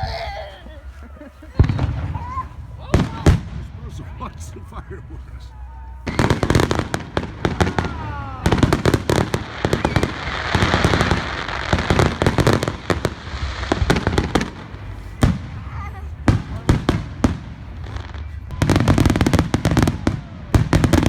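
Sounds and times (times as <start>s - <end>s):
fireworks crackling hiss: 0.0s - 21.0s
fireworks booming: 1.6s - 5.0s, 6.0s - 21.0s.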